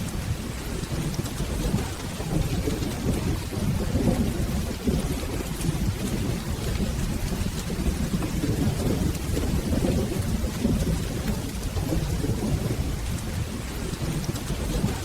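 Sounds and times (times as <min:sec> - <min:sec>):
rolling thunder: 0:00.0 - 0:15.0
steady rain: 0:00.0 - 0:15.0.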